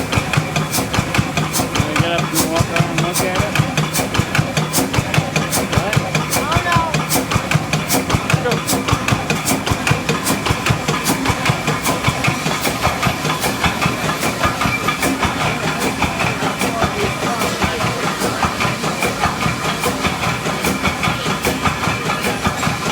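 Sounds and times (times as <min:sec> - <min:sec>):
two-cylinder engine running: 0:00.0 - 0:22.9.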